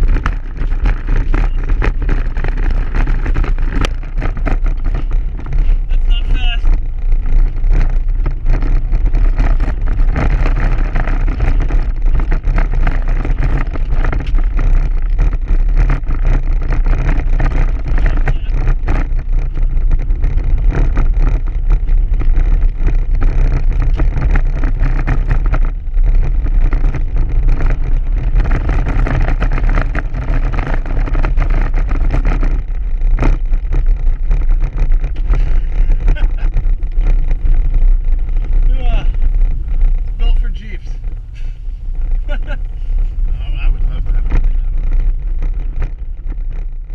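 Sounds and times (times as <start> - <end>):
car engine running hard: 0.0 - 46.9
heavy low rumble: 0.0 - 46.9.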